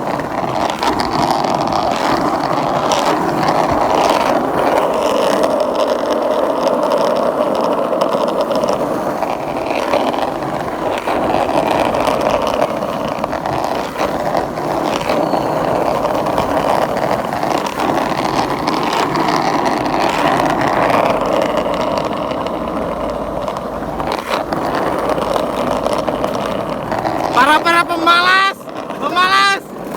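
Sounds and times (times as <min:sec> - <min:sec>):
skateboard wheels rolling on pavement: 0:00.0 - 0:29.9.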